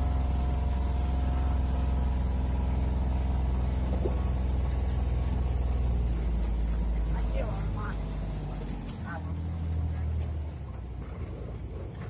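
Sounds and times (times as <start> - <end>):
farm vehicle engine droning: 0.0 - 12.0.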